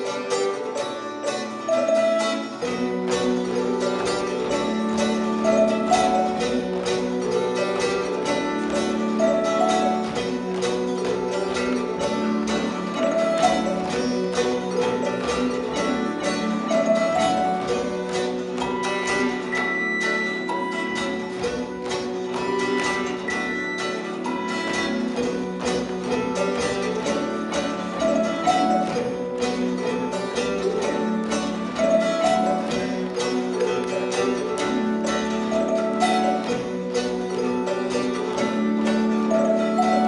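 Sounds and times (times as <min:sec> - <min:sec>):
instrumental music with quick beat: 0:00.0 - 0:40.0.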